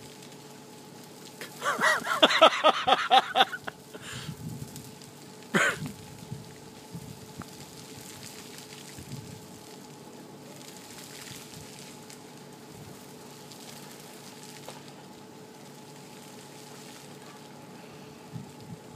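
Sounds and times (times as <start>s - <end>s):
faint steady hum: 0.0s - 18.9s
freezing rain hissing on ice: 0.0s - 18.9s.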